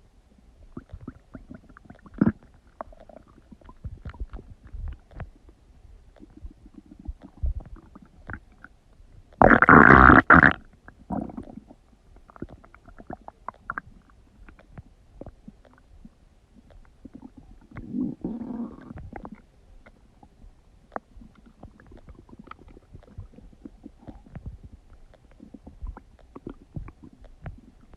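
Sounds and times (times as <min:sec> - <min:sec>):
stomach gurgling and rumbling: 0:00.0 - 0:27.9.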